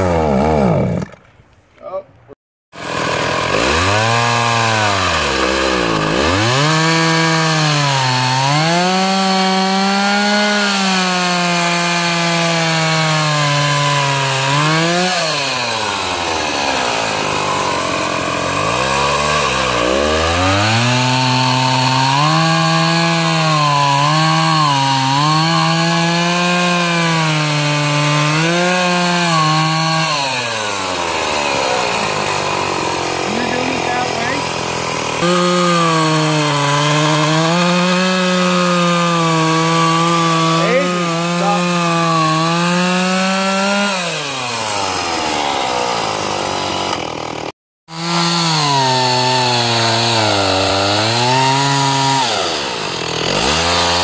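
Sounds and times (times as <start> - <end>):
chainsaw revving: 0.0 - 1.2, 2.7 - 54.0.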